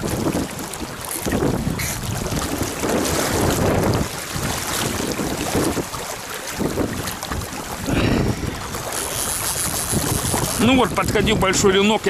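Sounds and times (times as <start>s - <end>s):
rushing river water: 0.0s - 12.0s
wind buffeting microphone: 0.0s - 12.0s.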